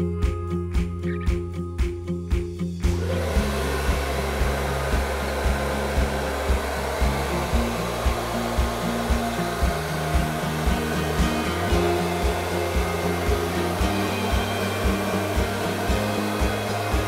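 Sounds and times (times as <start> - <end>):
background music with steady beat: 0.0 - 17.0
hair dryer blowing: 2.8 - 17.0.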